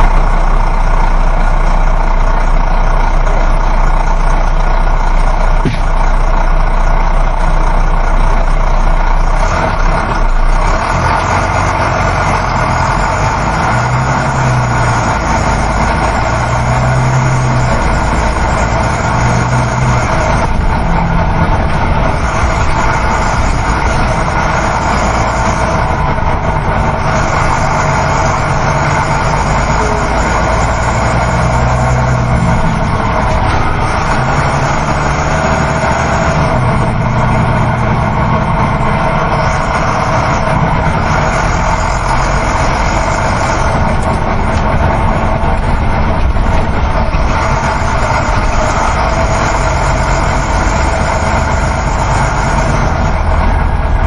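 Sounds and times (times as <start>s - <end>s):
bus engine drone: 0.0s - 54.0s
road and wind noise: 0.0s - 54.0s.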